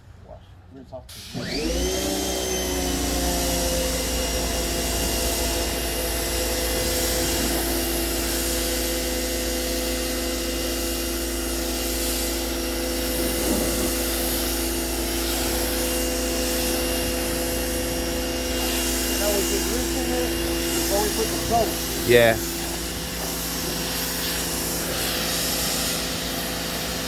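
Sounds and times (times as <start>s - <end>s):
pressure washer motor hum: 1.1s - 27.0s
water jet hissing: 1.1s - 27.0s.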